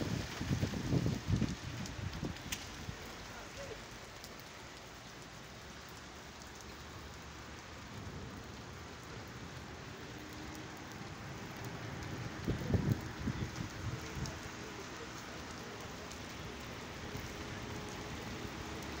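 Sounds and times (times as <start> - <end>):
rain on wet pavement: 0.0 - 19.0.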